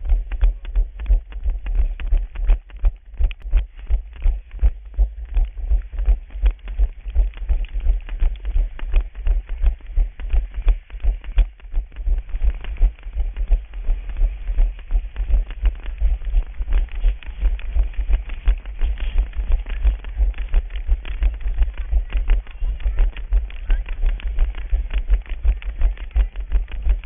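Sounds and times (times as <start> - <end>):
running footsteps: 0.0 - 27.0.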